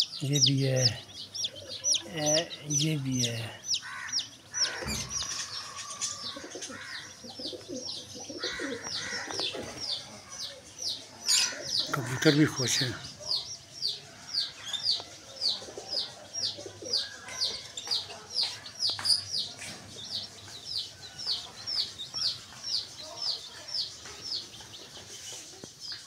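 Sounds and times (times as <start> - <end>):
baby chick peeping: 0.0 - 26.0.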